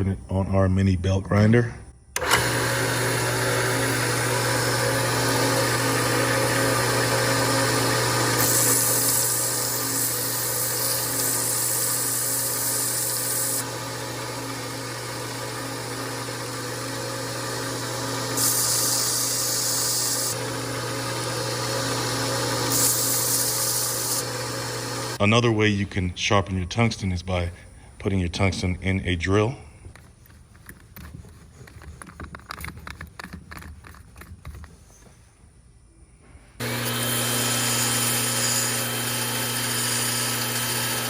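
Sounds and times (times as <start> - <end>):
high grinding hiss: 2.1 - 35.4, 36.2 - 41.0
belt grinder humming: 2.2 - 29.0, 29.7 - 35.2, 36.6 - 41.0.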